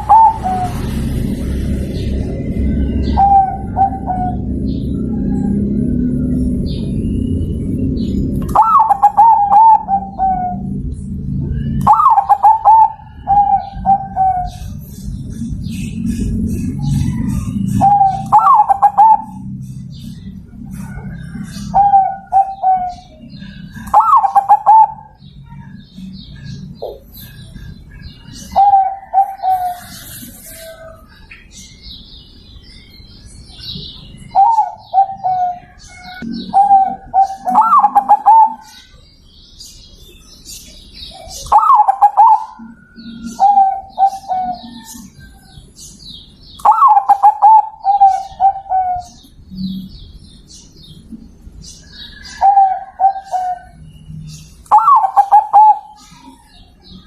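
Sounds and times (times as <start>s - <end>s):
dove cooing: 0.0s - 6.5s, 8.0s - 31.1s, 33.6s - 38.9s, 41.2s - 45.6s, 46.6s - 49.8s, 52.0s - 57.0s
small birds chirping: 0.0s - 57.0s.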